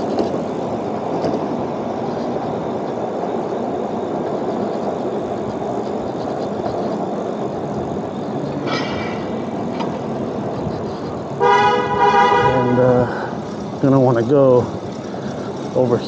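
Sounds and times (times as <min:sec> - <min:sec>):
road noise: 0:00.0 - 0:16.0
wind rush on microphone: 0:00.0 - 0:16.0.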